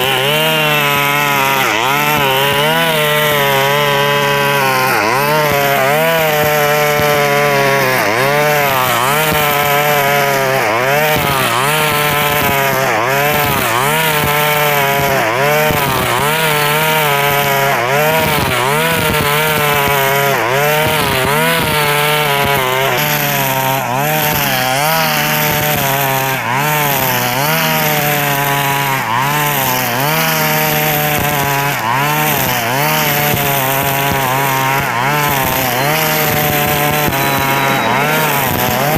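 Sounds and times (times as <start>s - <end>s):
brush cutter running at high revs: 0.0s - 38.9s.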